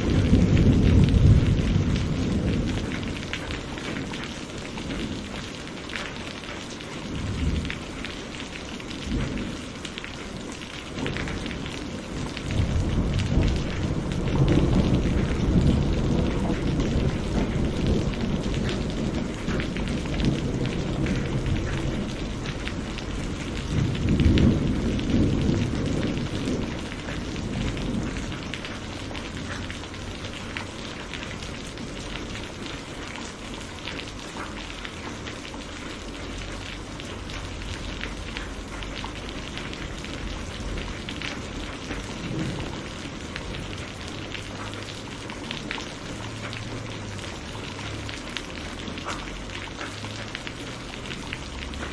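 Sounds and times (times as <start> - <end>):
thunder rumbling: 0.0 - 35.3, 35.9 - 51.9
rain drops pattering: 0.0 - 51.9.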